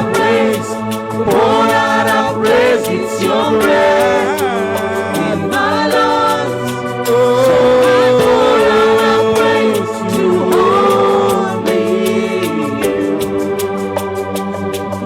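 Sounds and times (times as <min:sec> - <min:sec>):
voices singing held notes: 0:00.0 - 0:14.0
held accompaniment: 0:00.0 - 0:15.0.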